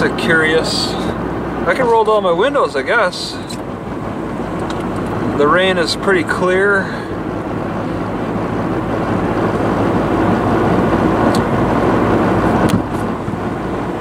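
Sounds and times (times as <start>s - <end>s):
car engine running: 0.0s - 14.0s
tyres on a wet road: 0.0s - 14.0s.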